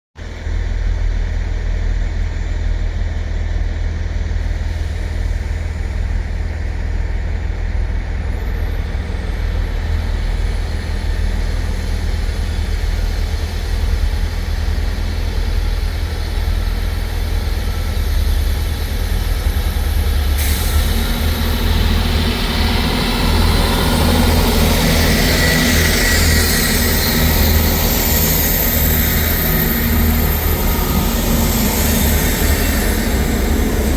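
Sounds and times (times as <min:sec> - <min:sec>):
diesel train engines: 0:00.2 - 0:33.9.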